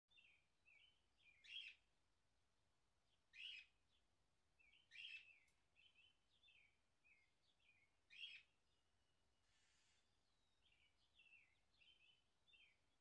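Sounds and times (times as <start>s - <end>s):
faint bird chirping: 0.1s - 1.9s, 3.1s - 13.0s.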